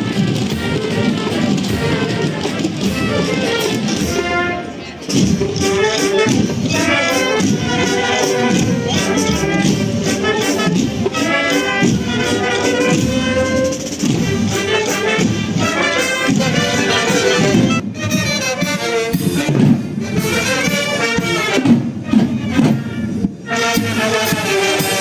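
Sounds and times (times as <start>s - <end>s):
brass band playing a march: 0.0s - 25.0s
snare drums marching rhythm: 0.0s - 25.0s.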